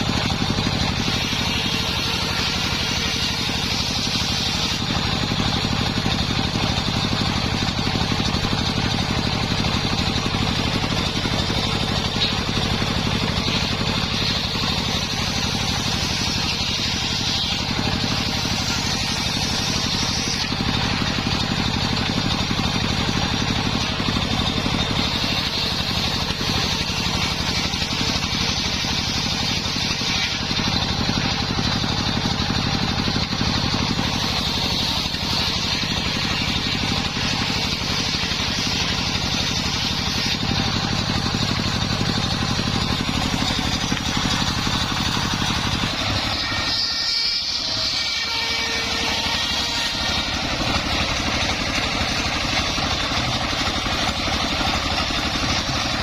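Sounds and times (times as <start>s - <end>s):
engine-driven sawmill running: 0.0s - 56.0s.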